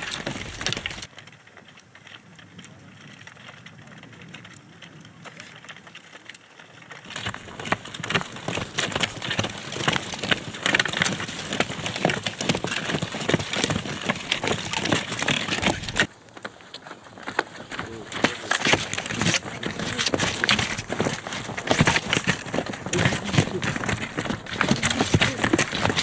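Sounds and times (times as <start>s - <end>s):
ski poles planting: 0.0s - 26.0s
skis scraping and clacking on turf: 0.0s - 26.0s.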